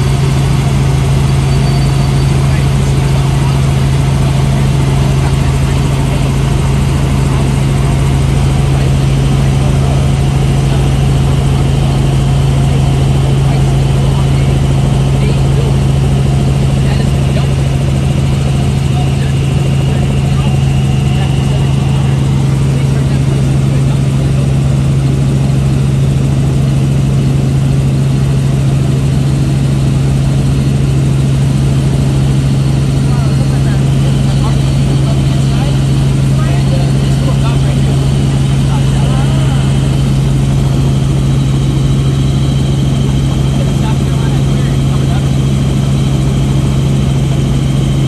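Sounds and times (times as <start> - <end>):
helicopter engine and rotors: 0.0 - 48.0.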